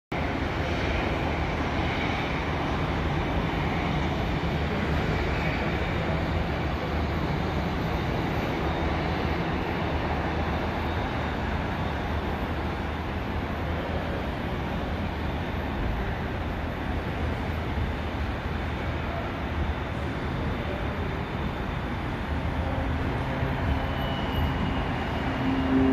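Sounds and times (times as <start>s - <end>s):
distant turboprop airplane taking off: 0.2s - 25.9s.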